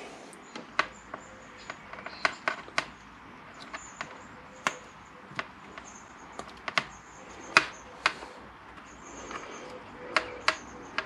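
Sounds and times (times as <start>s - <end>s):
clicks and taps of tube handling: 0.6s - 11.0s.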